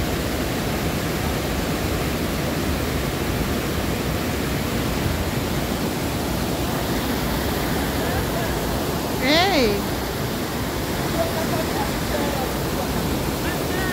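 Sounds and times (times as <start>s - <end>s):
water rushing over weir: 0.0s - 13.9s.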